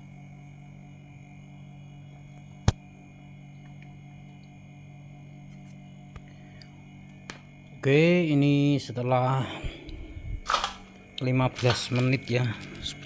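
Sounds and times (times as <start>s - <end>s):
refrigerator compressor hum: 0.0s - 13.0s.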